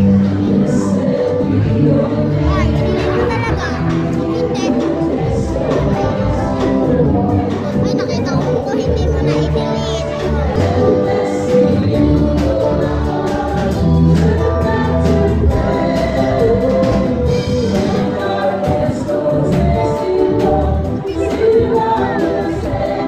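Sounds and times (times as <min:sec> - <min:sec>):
choir singing: 0:00.0 - 0:08.1, 0:08.9 - 0:23.0
instrumental backing with steady beat: 0:00.0 - 0:23.0.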